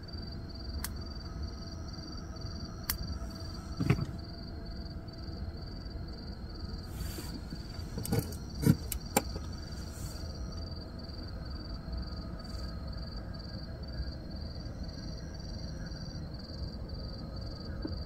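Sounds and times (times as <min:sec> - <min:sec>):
insect chirping: 0:00.0 - 0:18.0
low outdoor rumble: 0:00.0 - 0:18.0.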